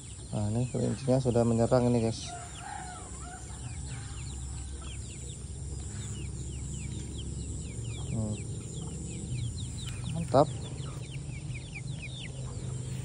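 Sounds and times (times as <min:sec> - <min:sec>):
chicks cheeping: 0:00.0 - 0:13.0.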